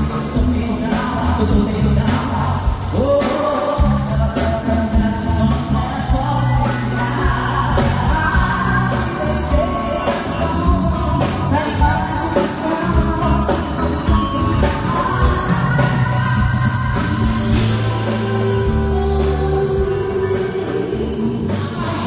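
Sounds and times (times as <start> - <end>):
bass guitar: 0.0 - 22.0
drum kit: 0.0 - 22.0
women singing: 0.0 - 22.0.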